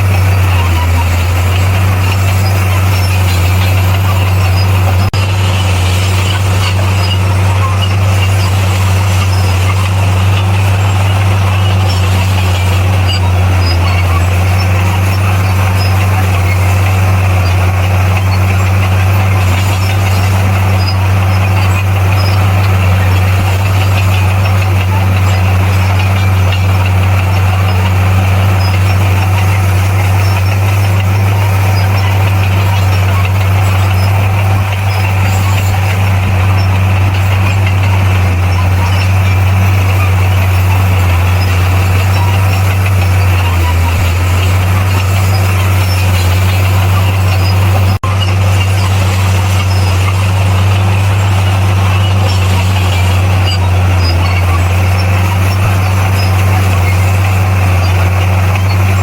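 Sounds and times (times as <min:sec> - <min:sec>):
bulldozer engine droning: 0:00.0 - 0:59.0.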